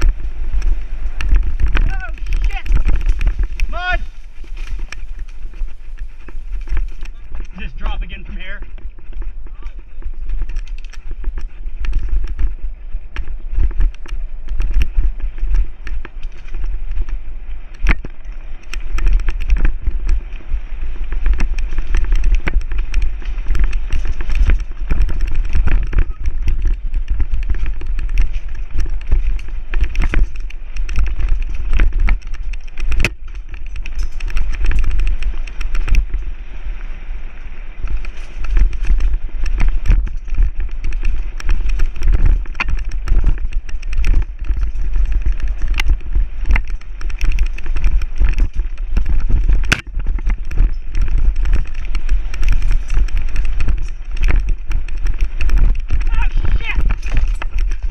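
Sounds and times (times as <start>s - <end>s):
bike rattling over rough trail: 0.0s - 57.9s
tyre noise on dirt: 0.0s - 57.9s
wind buffeting microphone: 0.0s - 57.9s.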